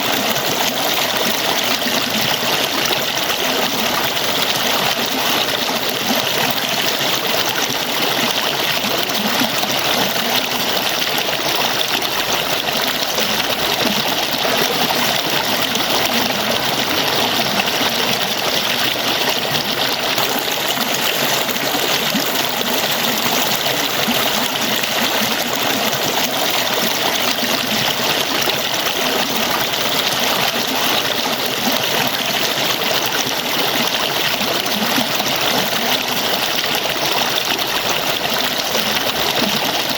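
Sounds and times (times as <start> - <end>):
falling water splashing: 0.0 - 39.9.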